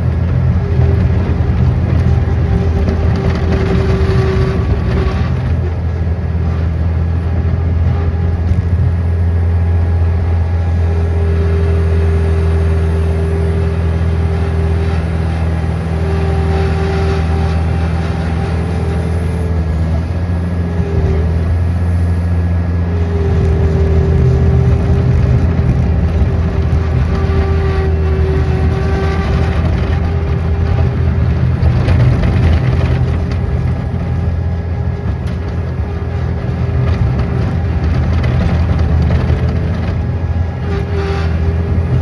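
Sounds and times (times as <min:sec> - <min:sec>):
engine droning loudly: 0:00.0 - 0:42.0.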